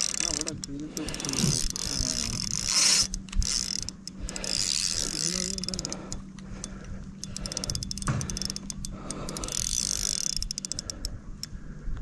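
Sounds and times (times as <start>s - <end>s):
fishing reel clicking: 0.0s - 11.6s
low steady hum: 0.0s - 12.0s.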